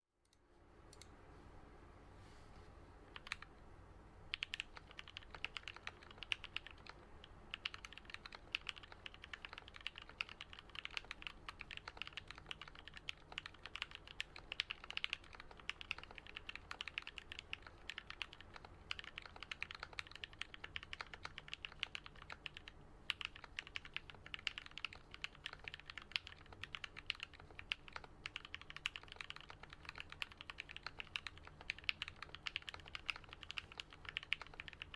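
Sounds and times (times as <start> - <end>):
typing on mechanical keyboard: 3.1 - 3.5, 4.3 - 34.9.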